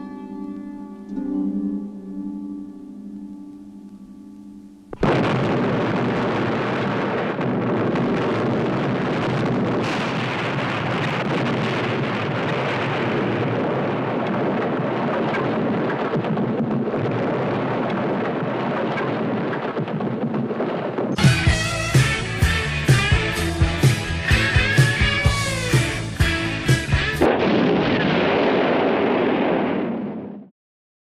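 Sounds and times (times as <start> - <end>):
rumble of burning: 4.4 - 30.4
explosion blast: 4.9 - 30.5.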